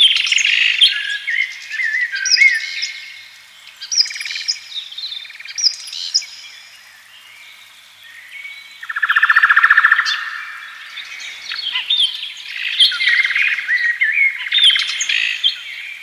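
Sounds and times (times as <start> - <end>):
songbirds singing and calling: 0.0 - 16.0.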